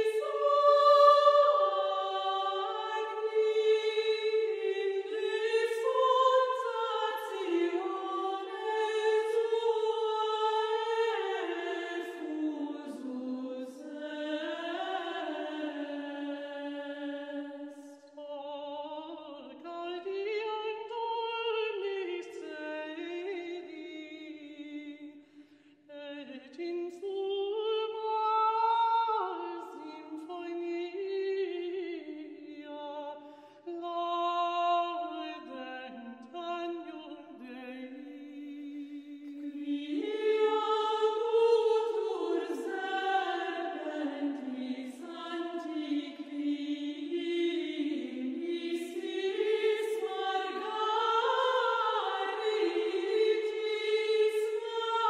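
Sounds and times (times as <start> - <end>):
slow vocal singing: 0.0 - 55.0.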